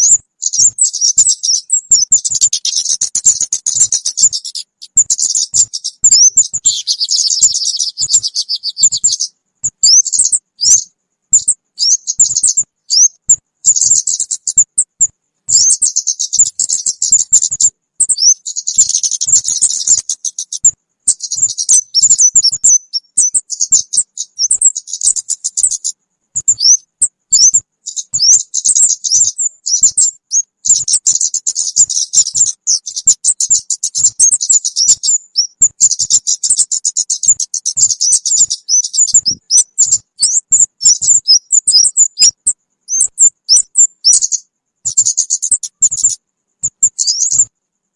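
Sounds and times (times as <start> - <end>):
songbird chirps and trills: 0.0 - 47.9.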